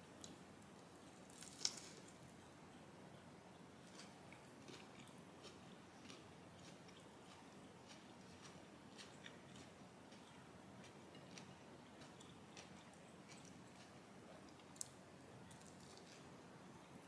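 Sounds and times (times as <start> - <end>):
chewing crunchy cabbage: 1.2 - 2.5, 3.8 - 16.3.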